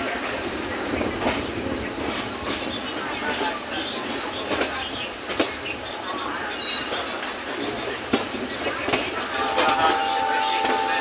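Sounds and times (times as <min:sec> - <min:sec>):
train rumble and rattle: 0:00.0 - 0:11.0.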